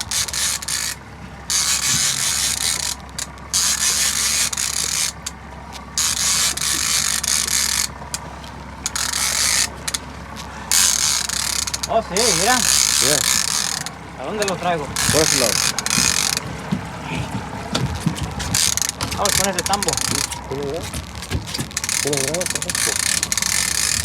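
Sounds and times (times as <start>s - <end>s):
fishing reel gears ratcheting: 0.0s - 16.5s, 18.0s - 24.0s
steady low hum: 0.0s - 24.0s.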